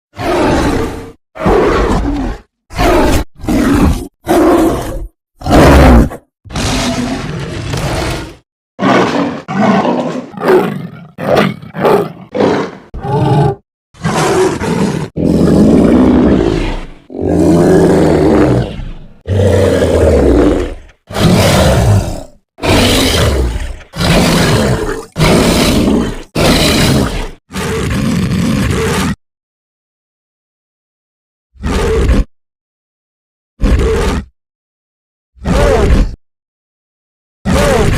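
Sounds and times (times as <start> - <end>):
cartoon monster roars: 0.1 - 29.2, 31.6 - 32.3, 33.6 - 34.3, 35.4 - 36.2, 37.5 - 37.9
cartoon monster growls: 0.2 - 29.2, 31.6 - 32.3, 33.6 - 34.3, 35.4 - 36.2, 37.5 - 37.9.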